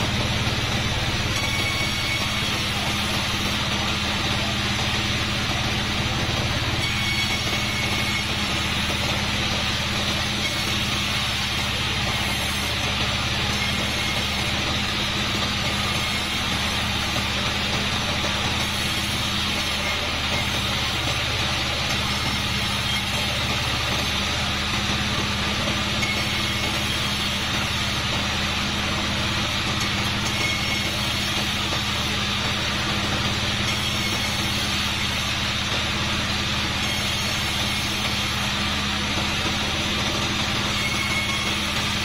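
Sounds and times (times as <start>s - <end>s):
saw blade hissing through wood: 0.0s - 24.8s, 25.4s - 42.0s
band saw machine hum: 0.0s - 42.0s.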